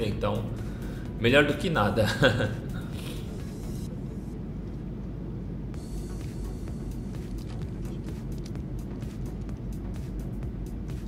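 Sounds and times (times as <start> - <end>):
airplane cabin rumble: 0.0 - 11.0
faint background music: 0.0 - 11.0.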